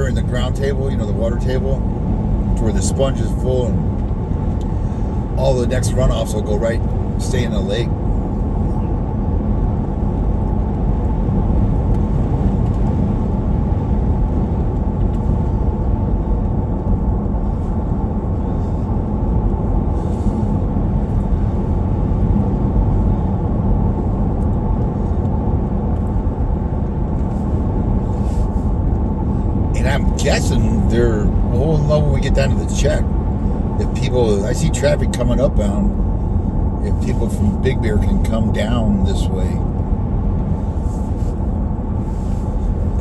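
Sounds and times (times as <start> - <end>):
vehicle cabin road rumble: 0.0 - 43.0.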